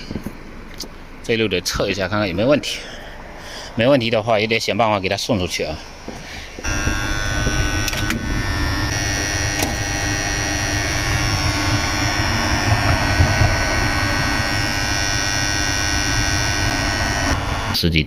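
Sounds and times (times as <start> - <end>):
contactors humming mains buzz: 0.0 - 18.0.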